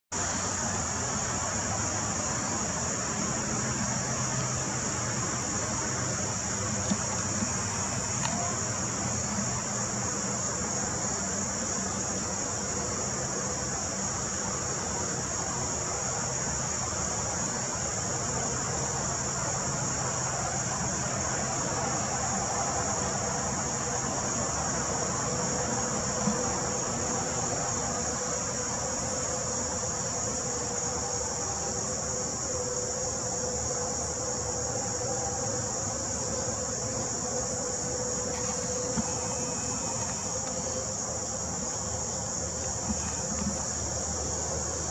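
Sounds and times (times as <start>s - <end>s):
high-pitched insect chorus: 0.1s - 44.9s
low background noise: 0.1s - 44.9s.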